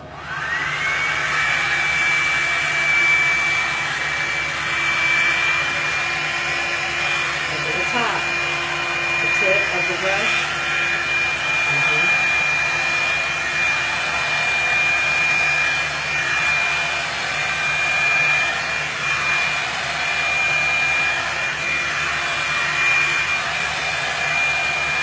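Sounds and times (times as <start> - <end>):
blow dryer fan and air rush: 0.0 - 25.0.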